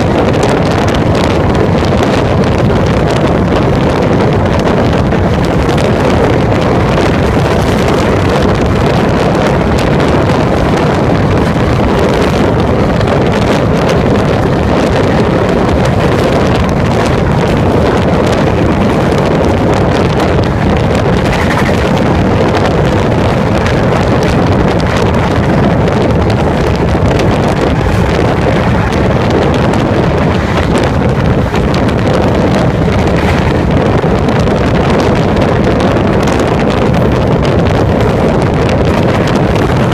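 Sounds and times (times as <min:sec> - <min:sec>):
train running noise: 0:00.0 - 0:39.9
wind rushing over microphone: 0:00.0 - 0:39.9.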